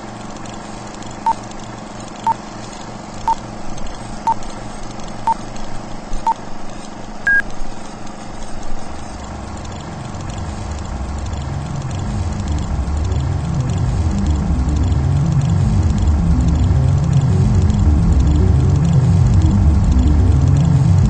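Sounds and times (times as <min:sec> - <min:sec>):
steady hiss with low hum: 0:00.0 - 0:21.0.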